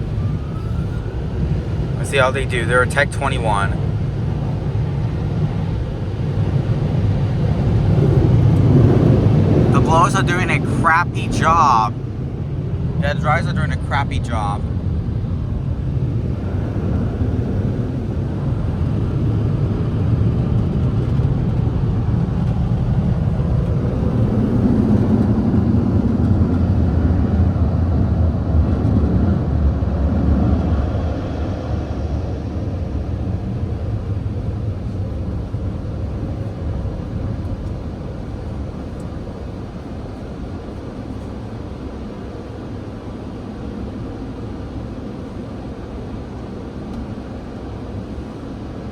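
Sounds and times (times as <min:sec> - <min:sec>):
car wash dryer blowers: 0:00.0 - 0:48.9.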